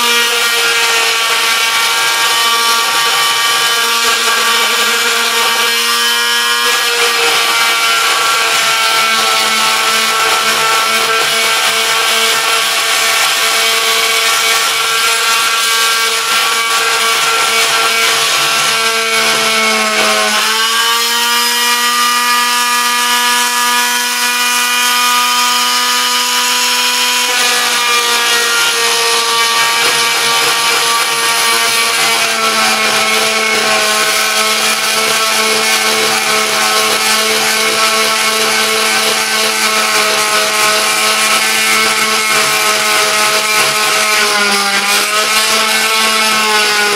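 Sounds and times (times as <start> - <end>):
multi-tool cutting wood: 0.0 - 46.9.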